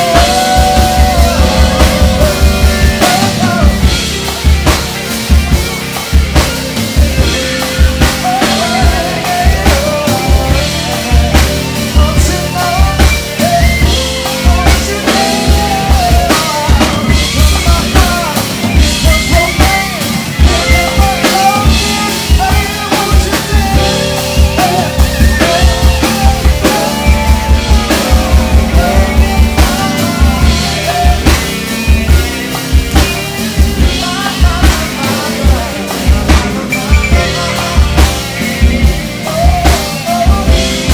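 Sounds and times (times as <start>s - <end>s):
cymbals: 0.0s - 40.9s
live band playing: 0.0s - 40.9s.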